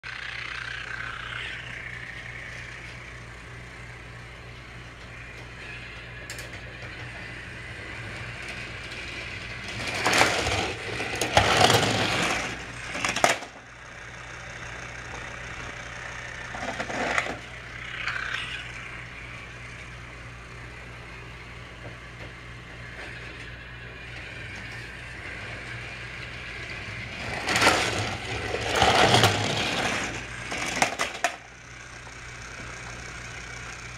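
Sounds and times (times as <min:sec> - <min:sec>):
toy train motor whir: 0:00.1 - 0:33.9
toy train rattling on track: 0:00.1 - 0:33.9.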